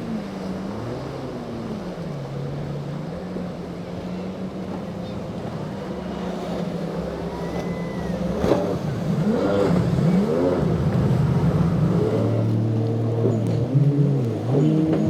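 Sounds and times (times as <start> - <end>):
motorboat engine revving: 0.0 - 15.0
second boat engine: 0.0 - 15.0.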